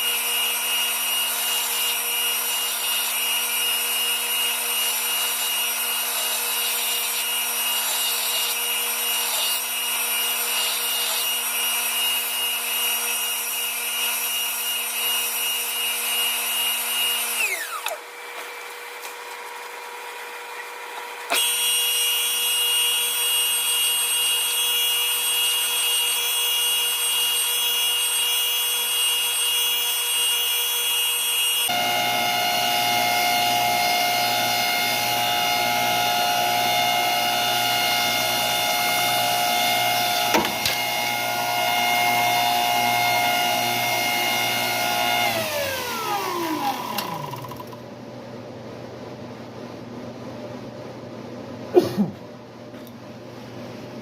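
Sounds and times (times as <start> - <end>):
power tool motor grinding: 0.0 - 19.4, 20.6 - 47.8.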